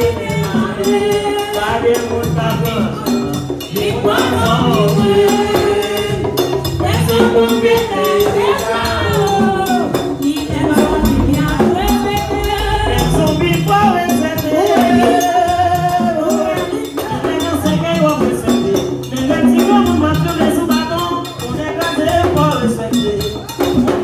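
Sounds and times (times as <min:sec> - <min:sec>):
hand drums and percussion: 0:00.0 - 0:24.0.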